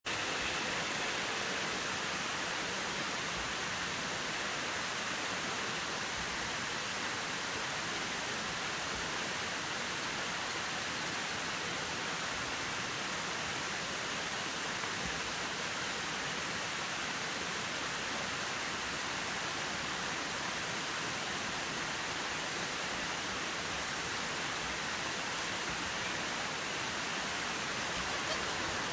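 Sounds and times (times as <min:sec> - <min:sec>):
flowing water rushing: 0:00.0 - 0:28.9.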